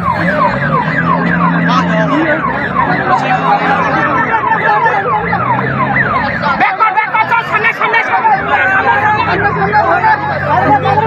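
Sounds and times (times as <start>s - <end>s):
ambulance siren: 0.0s - 11.0s
people's voices: 0.0s - 11.0s.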